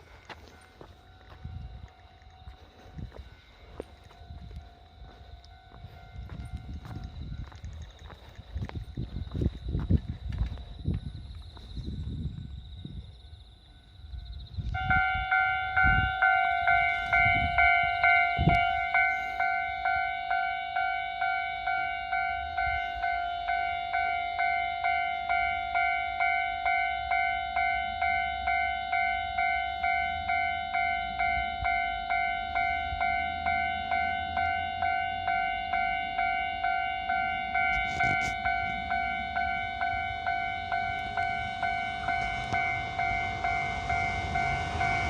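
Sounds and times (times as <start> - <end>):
level crossing warning bell: 0.0 - 11.4, 14.5 - 45.0.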